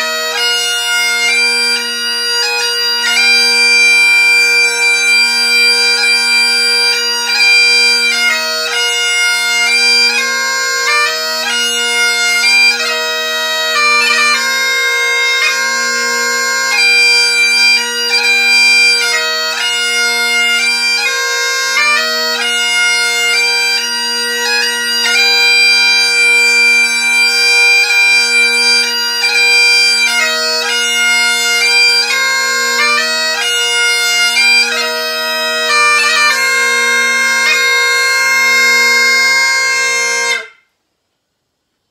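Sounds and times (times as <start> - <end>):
bagpipe playing a slow air: 0.0 - 40.7.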